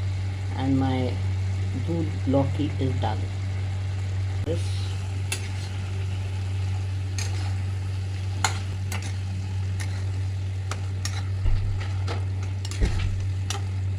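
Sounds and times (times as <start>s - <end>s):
cooking pan crackling: 0.0s - 13.9s
steady low hum: 0.0s - 13.9s.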